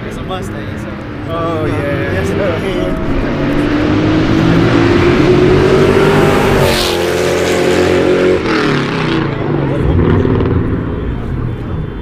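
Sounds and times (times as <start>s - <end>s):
racing cars accelerating past: 1.0s - 11.1s.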